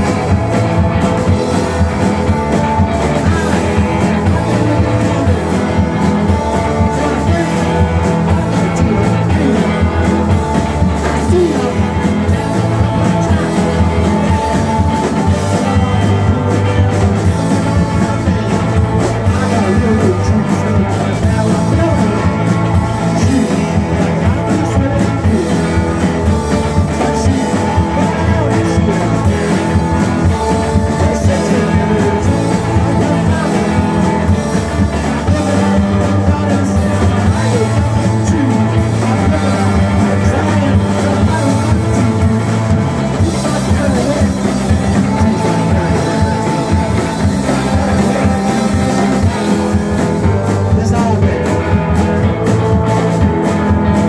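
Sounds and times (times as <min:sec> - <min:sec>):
person singing into microphone: 0:00.0 - 0:53.3
drum kit: 0:00.0 - 0:54.0
electric guitars: 0:00.0 - 0:54.0.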